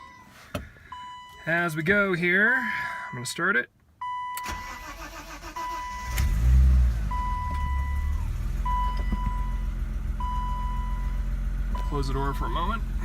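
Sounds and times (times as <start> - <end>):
car electronic warning chime: 0.0 - 2.0, 2.6 - 6.4, 7.1 - 11.2, 11.8 - 12.7
car engine cold start and idle: 0.0 - 13.0.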